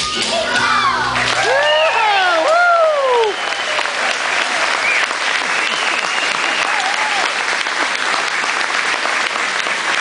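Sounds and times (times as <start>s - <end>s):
audience applauding: 1.0s - 10.0s.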